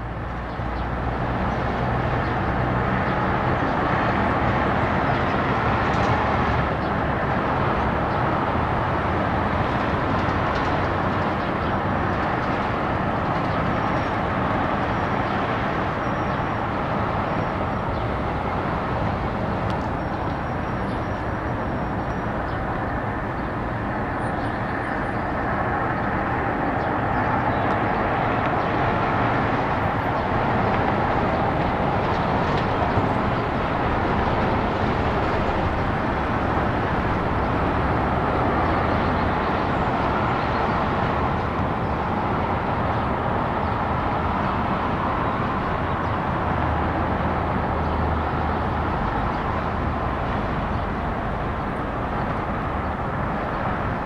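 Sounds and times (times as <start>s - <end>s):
distant traffic hum: 0.0s - 54.0s.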